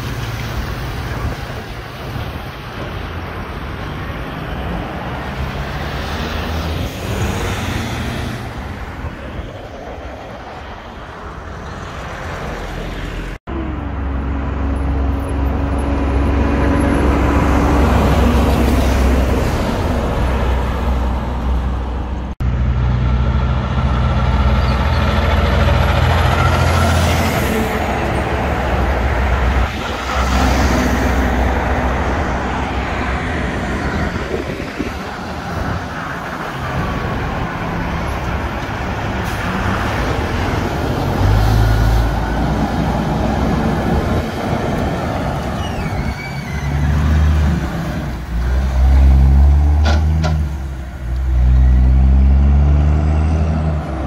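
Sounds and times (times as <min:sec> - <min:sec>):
trucks driving past: 0:00.0 - 0:54.0
tyre and road noise: 0:00.0 - 0:54.0.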